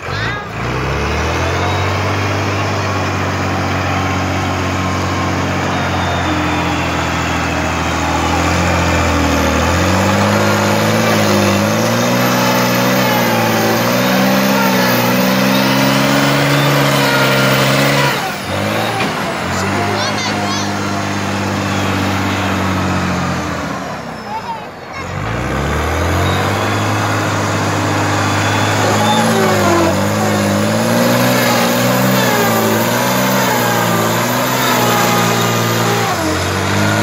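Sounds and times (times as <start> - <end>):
wheel loader diesel engine revving: 0.0 - 37.0.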